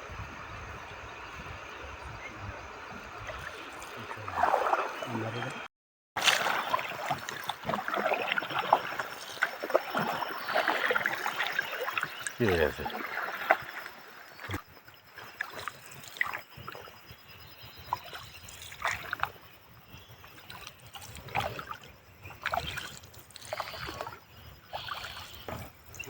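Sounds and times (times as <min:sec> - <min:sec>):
river water splashing around boat: 0:00.0 - 0:26.0.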